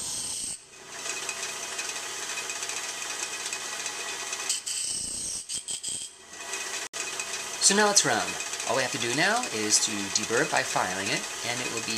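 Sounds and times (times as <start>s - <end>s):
disc sander grinding metal: 0.0s - 5.2s, 5.9s - 11.9s.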